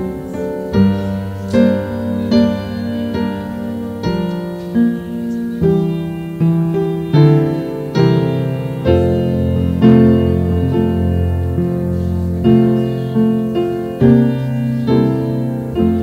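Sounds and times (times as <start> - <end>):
deep piano bass note: 0.0 - 16.0
slow piano chords: 0.0 - 16.0.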